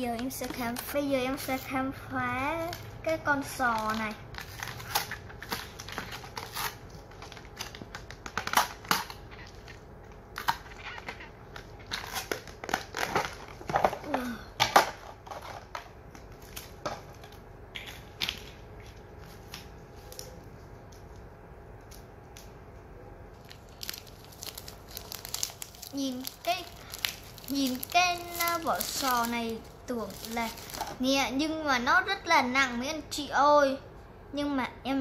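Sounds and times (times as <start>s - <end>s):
plastic packaging crinkling: 0.0s - 21.2s, 23.3s - 31.1s.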